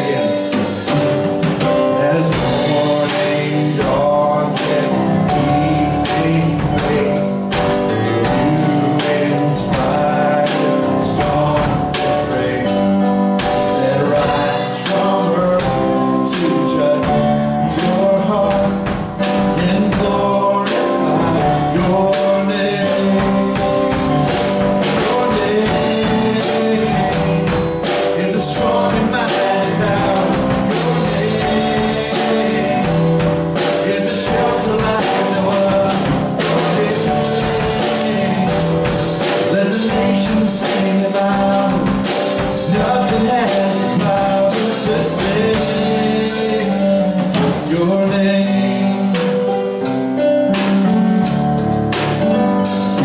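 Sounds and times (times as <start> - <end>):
man singing: 0.0 - 51.3
drum kit beat: 0.0 - 53.0
electric keyboard: 0.0 - 53.0.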